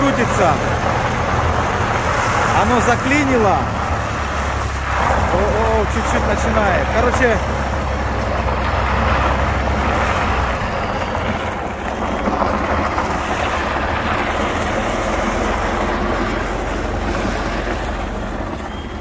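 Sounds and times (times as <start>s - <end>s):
noisy rumble: 0.0s - 19.0s
truck engine droning: 0.0s - 19.0s.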